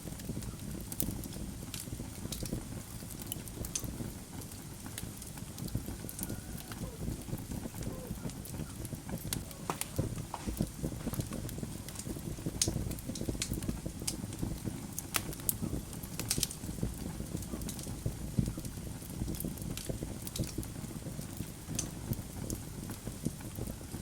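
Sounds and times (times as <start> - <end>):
logs crackling and popping: 0.0 - 24.0
low rumble of flames: 0.0 - 24.0.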